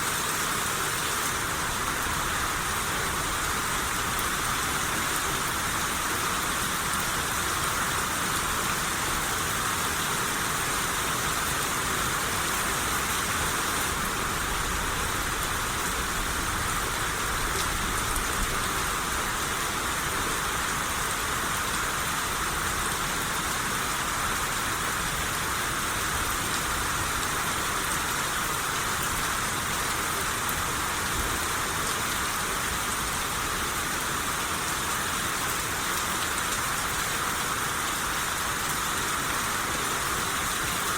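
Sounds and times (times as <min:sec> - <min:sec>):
rain shower falling: 0:00.0 - 0:40.9.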